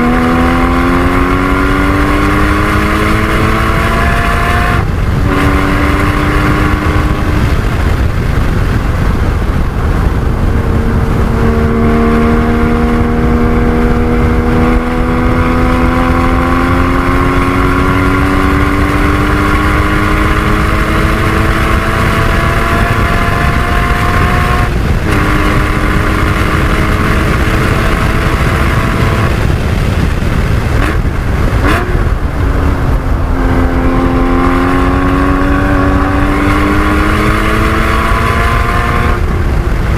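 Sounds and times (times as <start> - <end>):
road rumble: 0.0 - 39.9
sports car engine accelerating: 0.0 - 39.9
wind noise: 0.0 - 39.9.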